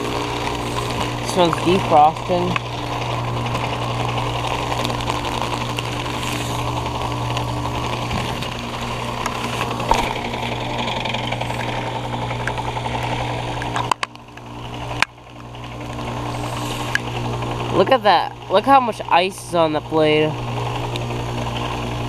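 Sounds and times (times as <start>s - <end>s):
heat pump compressor humming: 0.0s - 22.0s
second outdoor unit running: 0.0s - 22.0s.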